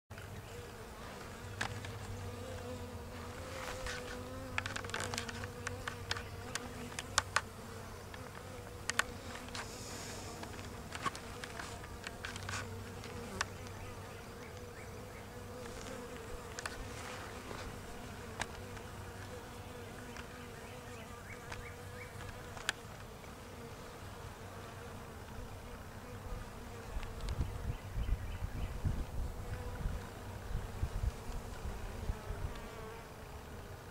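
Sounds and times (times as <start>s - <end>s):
bees buzzing: 0.2s - 33.9s.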